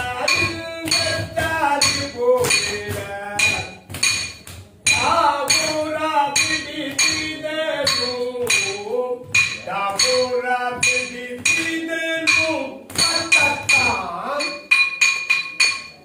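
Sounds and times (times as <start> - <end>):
person singing: 0.0 - 3.9, 4.9 - 14.7
hand cymbals ringing: 0.0 - 16.0.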